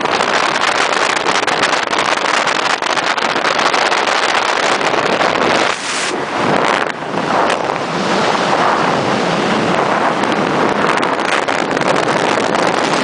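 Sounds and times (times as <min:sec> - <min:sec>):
truck road noise: 0:00.0 - 0:13.0
wind buffeting microphone: 0:00.0 - 0:13.0.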